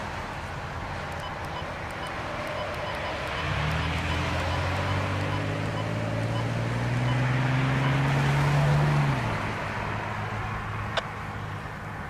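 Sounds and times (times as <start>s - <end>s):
traffic noise: 0.0s - 12.0s
vehicle engine hum: 0.0s - 12.0s
wind: 0.0s - 12.0s.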